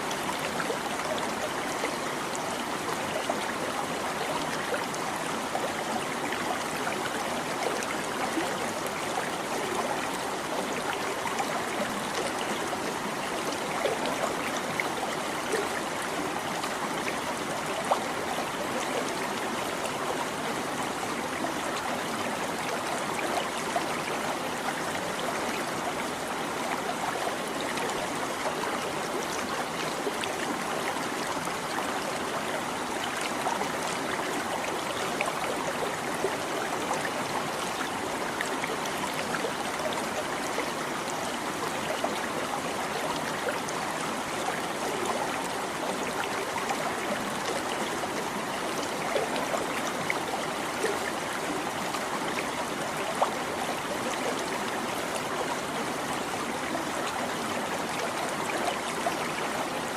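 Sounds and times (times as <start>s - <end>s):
brook water trickling and splashing: 0.0s - 59.9s.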